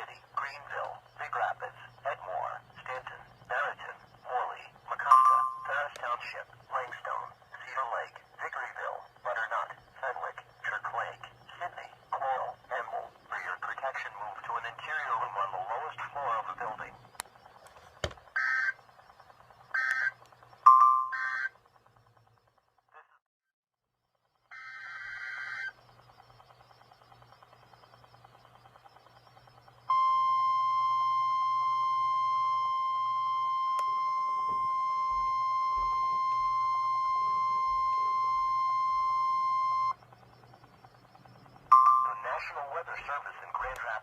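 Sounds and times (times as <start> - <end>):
steady high warning beep: 0.0 - 23.1, 24.2 - 44.0.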